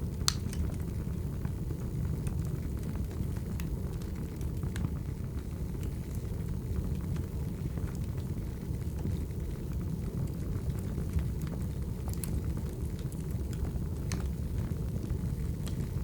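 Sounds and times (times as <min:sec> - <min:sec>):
fire rumbling: 0:00.0 - 0:16.0
firewood crackling and popping: 0:00.0 - 0:16.0.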